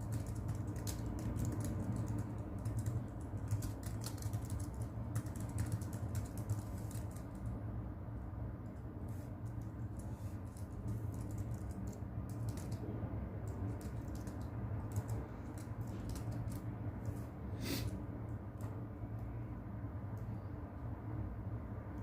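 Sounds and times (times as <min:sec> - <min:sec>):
low rumble noise: 0:00.0 - 0:22.0.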